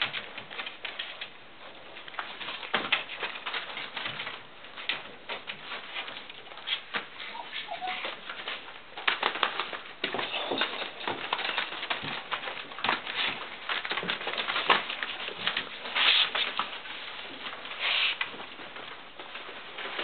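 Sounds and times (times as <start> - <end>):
paper rustling: 0.0 - 20.0
puppies scrabbling on newspaper: 0.0 - 20.0.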